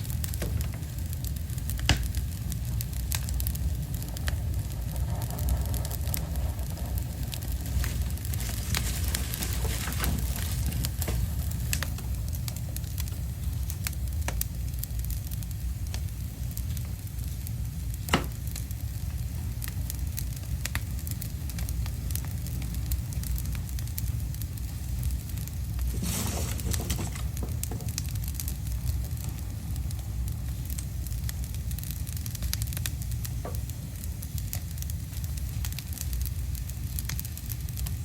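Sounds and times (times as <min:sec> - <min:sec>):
fire crackling and popping: 0:00.0 - 0:38.0
low fire rumble: 0:00.0 - 0:38.0.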